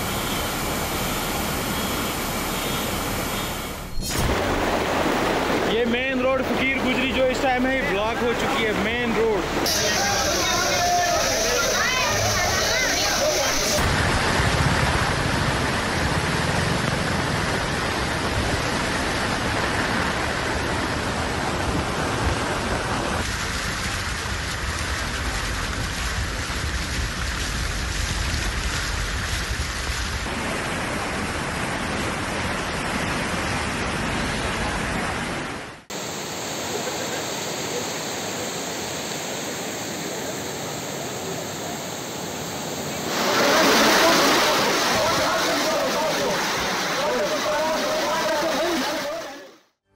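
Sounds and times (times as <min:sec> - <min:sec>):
floodwater rushing: 0:00.0 - 0:49.8.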